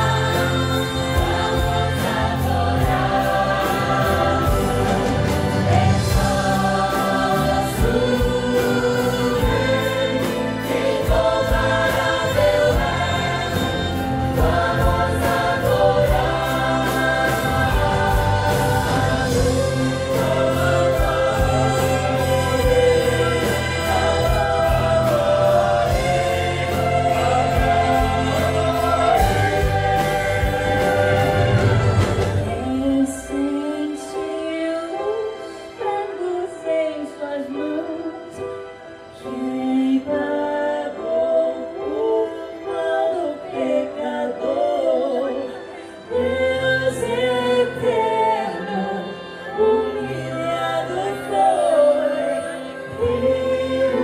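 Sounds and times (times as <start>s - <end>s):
choir singing: 0.0s - 54.0s
instrumental accompaniment: 0.0s - 54.0s.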